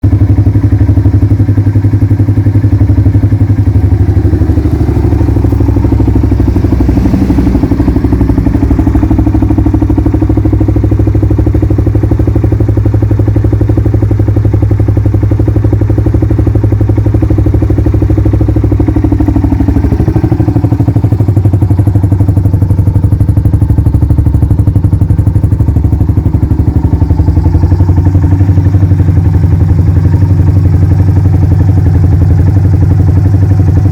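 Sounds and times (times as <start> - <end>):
motorcycle engine thumping: 0.0 - 33.9.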